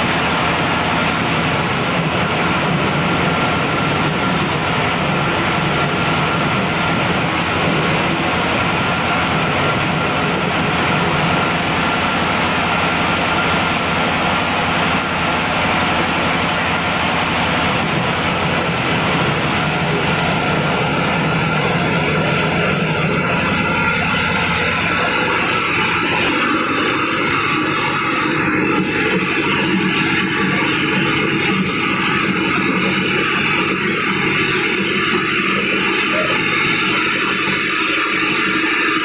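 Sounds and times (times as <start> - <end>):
grinding machine running: 0.0 - 39.0.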